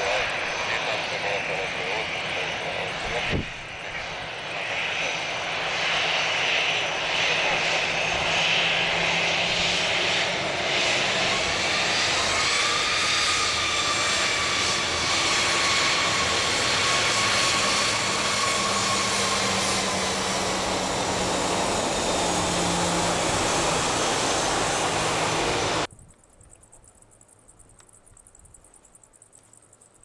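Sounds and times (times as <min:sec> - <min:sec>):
jet engines taxiing: 0:00.0 - 0:25.9.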